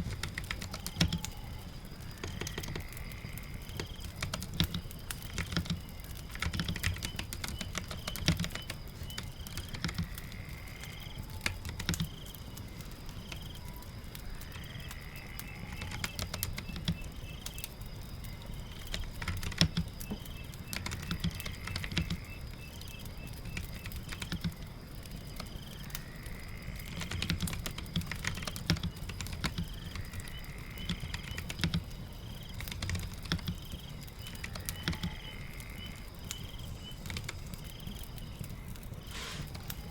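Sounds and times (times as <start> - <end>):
typing on a keyboard: 0.0 - 13.8, 14.4 - 26.0, 26.7 - 38.5
rain pattering: 0.0 - 39.9.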